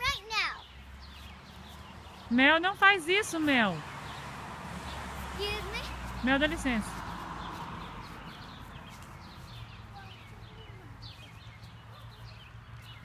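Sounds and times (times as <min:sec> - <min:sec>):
birds chirping: 0:00.0 - 0:13.0
faint outdoor background noise: 0:00.0 - 0:13.0.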